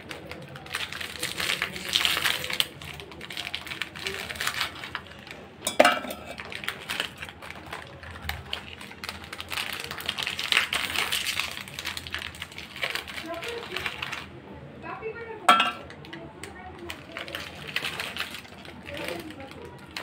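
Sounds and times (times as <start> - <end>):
biscuits clicking in steel jar: 0.0 - 14.3, 15.5 - 20.0.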